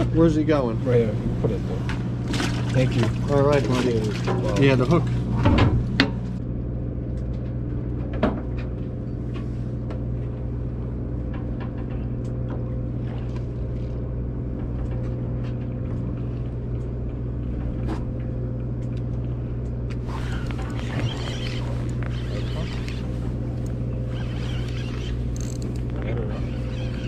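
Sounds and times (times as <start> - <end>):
boat engine droning: 0.0 - 8.0, 8.7 - 27.0.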